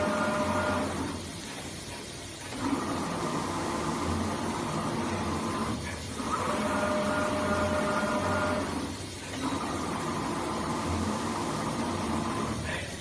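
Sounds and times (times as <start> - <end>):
plotter machine hum: 0.0 - 13.0.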